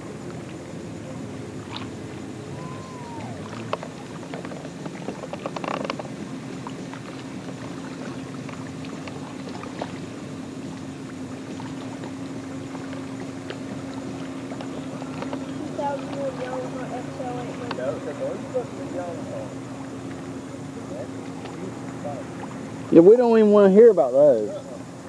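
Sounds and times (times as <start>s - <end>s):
outboard motor droning: 0.0s - 25.0s.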